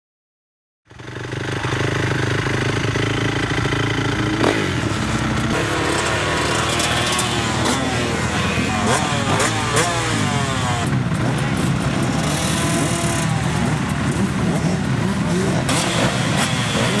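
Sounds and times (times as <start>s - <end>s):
motorcycle engines revving: 0.9s - 17.0s.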